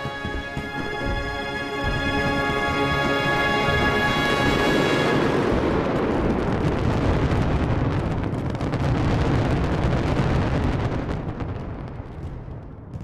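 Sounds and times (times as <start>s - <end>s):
fireworks bangs and crackles: 0.0s - 13.0s
low rumble: 0.0s - 13.0s.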